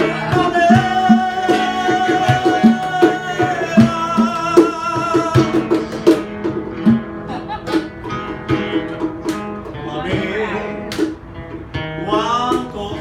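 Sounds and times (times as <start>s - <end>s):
acoustic guitars: 0.0s - 13.0s
cajon beat: 0.0s - 13.0s.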